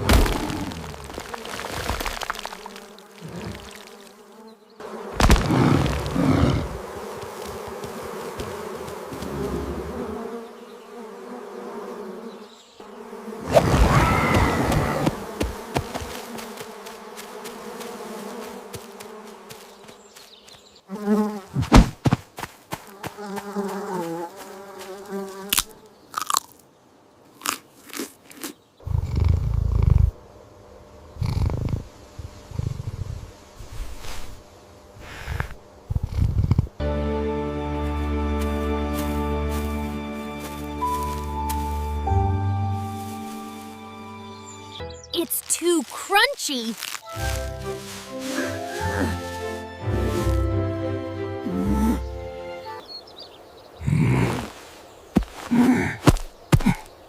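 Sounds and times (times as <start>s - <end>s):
insect-like buzzing: 0.0s - 26.4s, 27.4s - 36.8s, 37.9s - 52.9s, 53.7s - 57.0s.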